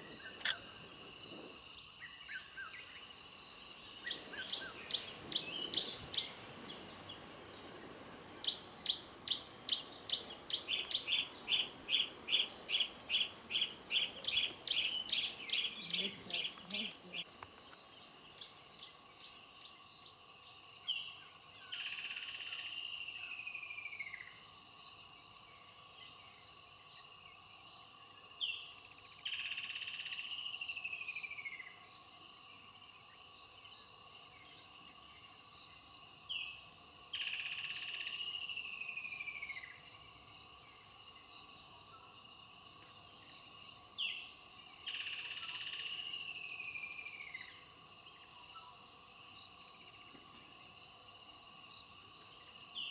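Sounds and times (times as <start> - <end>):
insect chirring: 0.0 - 25.5, 28.4 - 52.9.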